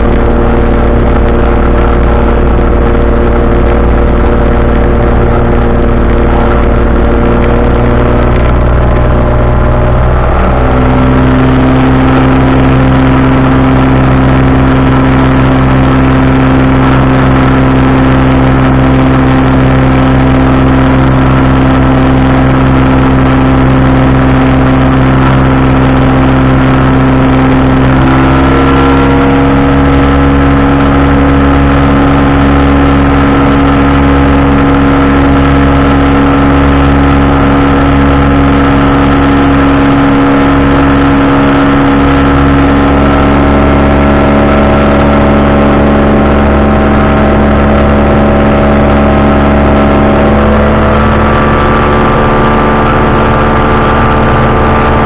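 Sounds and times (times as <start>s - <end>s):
engine and propeller droning: 0.0s - 55.0s.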